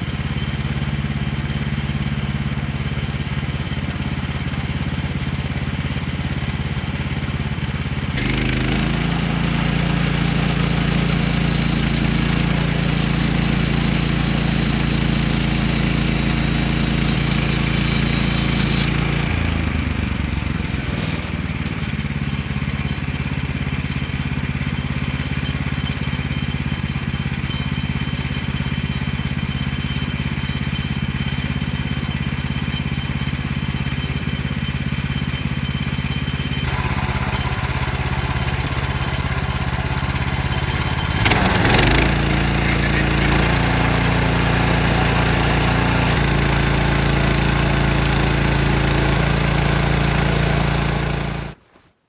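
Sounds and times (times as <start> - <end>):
sawmill engine running: 0.0 - 29.5, 30.5 - 51.6.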